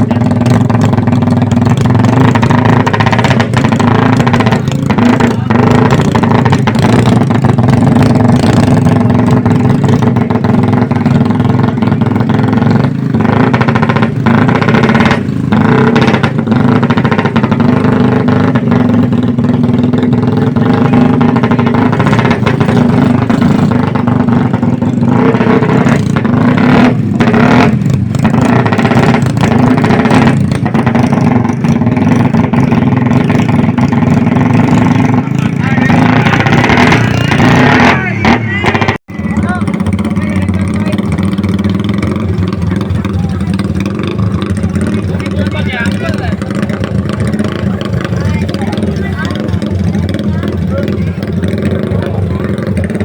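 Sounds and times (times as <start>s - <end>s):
motorcycle engines revving: 0.0s - 53.0s
sharp exhaust pops: 0.0s - 53.0s.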